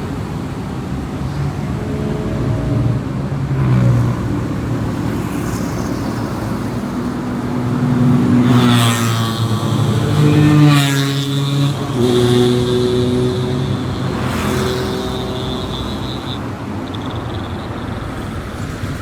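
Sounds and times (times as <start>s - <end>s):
tyre and road noise: 0.0s - 19.0s
passing vehicle engine: 0.1s - 19.0s
car engine: 3.5s - 19.0s.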